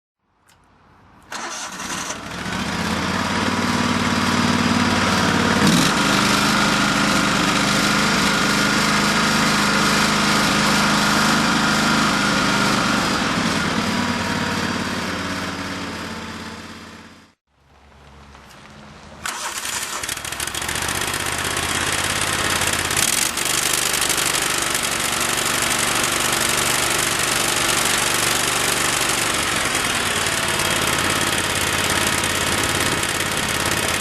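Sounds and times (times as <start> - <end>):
backhoe engine running: 1.3 - 17.3, 19.0 - 34.0.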